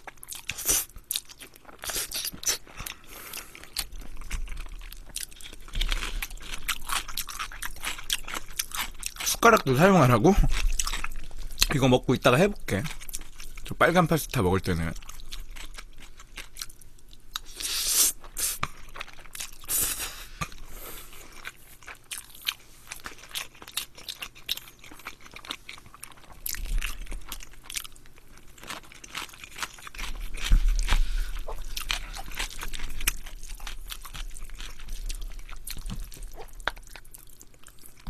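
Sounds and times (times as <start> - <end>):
wet chewing: 0.0 - 13.8, 14.7 - 38.0.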